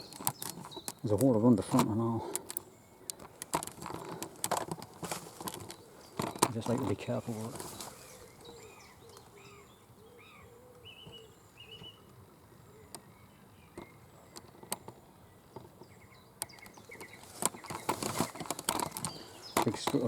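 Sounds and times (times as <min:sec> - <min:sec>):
bark and twigs crackling: 0:00.0 - 0:20.0
faint birdsong: 0:00.0 - 0:20.0.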